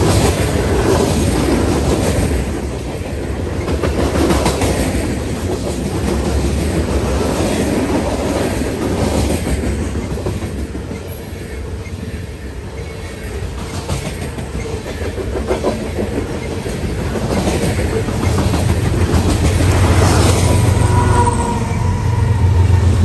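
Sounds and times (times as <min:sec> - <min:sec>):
clickety-clack over rail joints: 0:00.0 - 0:20.8
diesel locomotive drone: 0:00.0 - 0:23.0
steel wheels rumbling on rail: 0:00.0 - 0:23.0.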